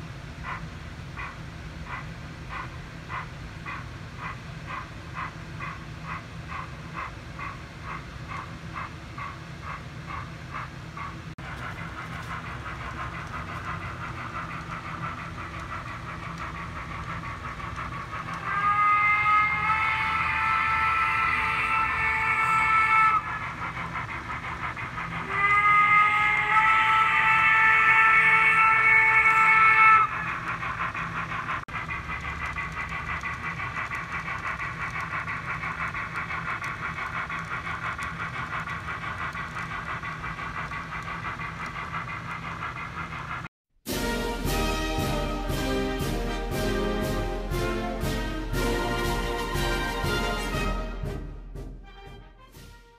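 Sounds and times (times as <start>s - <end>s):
model locomotive steam chuffs: 0.0s - 51.9s
low running hum: 0.0s - 52.9s.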